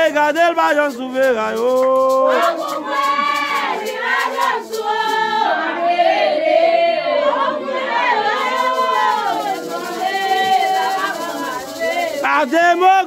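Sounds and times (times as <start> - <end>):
group singing together: 1.6 - 13.0.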